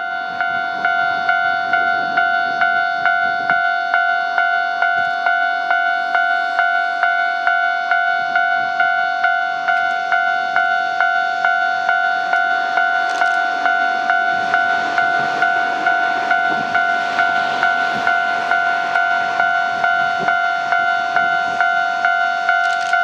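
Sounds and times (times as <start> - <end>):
level crossing alarm bell: 0.0 - 23.0.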